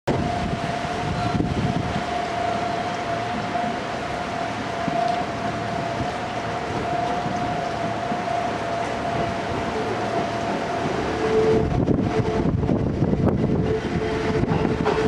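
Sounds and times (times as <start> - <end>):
gusty wind on microphone: 0.1 - 15.0
steady whine: 0.1 - 15.0.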